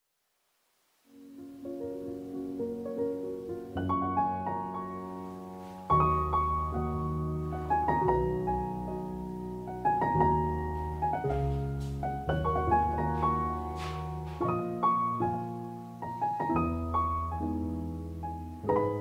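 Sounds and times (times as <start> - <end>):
slow piano chords: 1.1 - 19.0.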